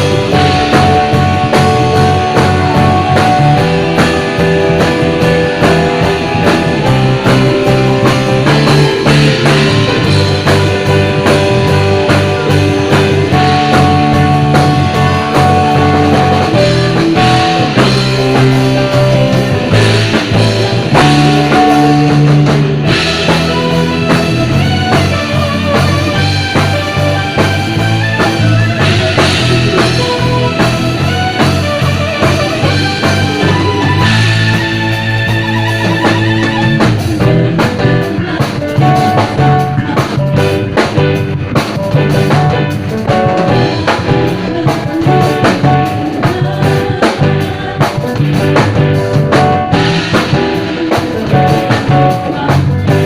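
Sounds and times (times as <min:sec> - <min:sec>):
rock band music: 0:00.0 - 0:53.0.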